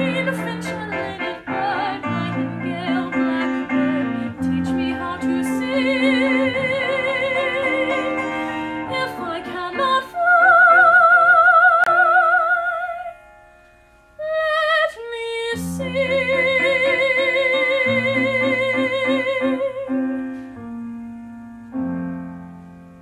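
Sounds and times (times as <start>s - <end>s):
woman singing soprano: 0.0s - 13.2s, 14.2s - 20.2s
piano accompaniment: 0.0s - 23.0s.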